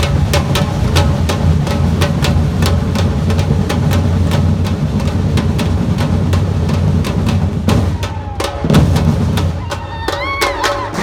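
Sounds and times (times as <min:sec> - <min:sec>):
drum band playing: 0:00.0 - 0:11.0.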